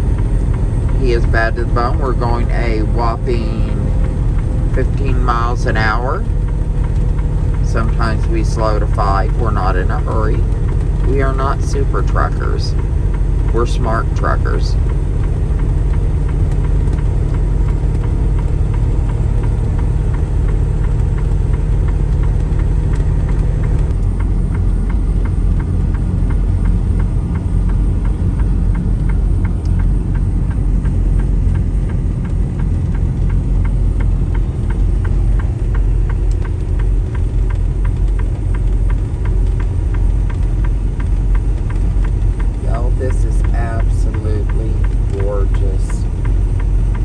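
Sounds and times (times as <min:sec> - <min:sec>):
diesel engine rumbling: 0:00.0 - 0:47.0
light even ticking: 0:00.0 - 0:47.0.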